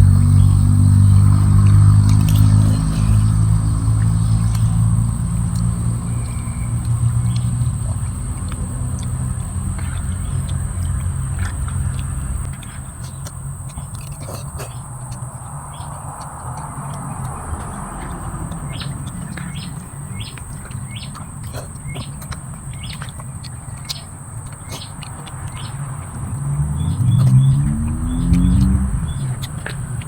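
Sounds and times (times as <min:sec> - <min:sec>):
high insect drone: 0:00.0 - 0:30.0
small birds chirping: 0:00.0 - 0:30.0.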